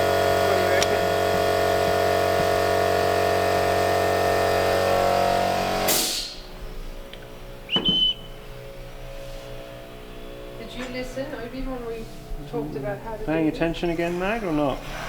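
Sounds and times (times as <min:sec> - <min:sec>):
motor-driven machine humming: 0:00.0 - 0:14.9.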